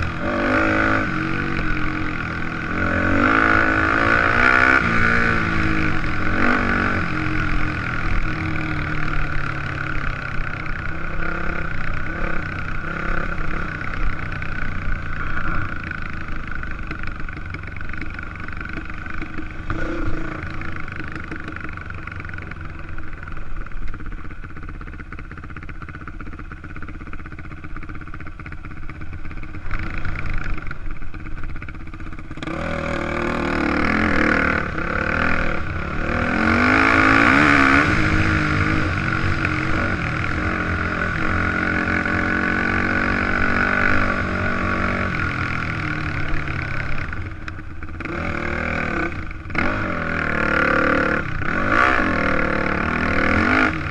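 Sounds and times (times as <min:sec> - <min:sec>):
dirt bike engine revving: 0:00.0 - 0:25.8, 0:26.6 - 0:53.9.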